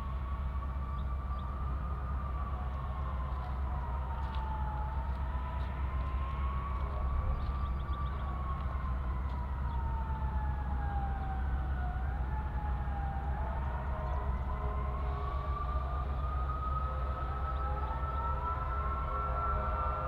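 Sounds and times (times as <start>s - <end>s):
wavering whine: 0.0s - 20.0s.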